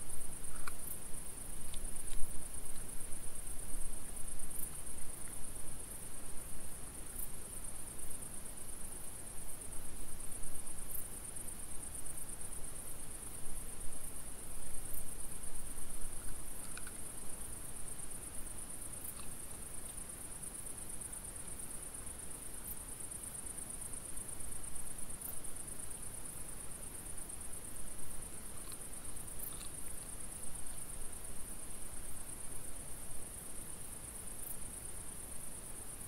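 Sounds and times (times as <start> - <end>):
crickets trilling: 0.0 - 36.0
low background hiss: 0.0 - 36.0.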